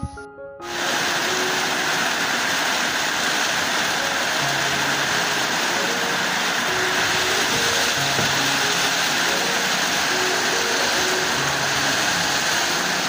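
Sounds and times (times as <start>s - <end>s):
heavy rain: 0.6s - 13.0s.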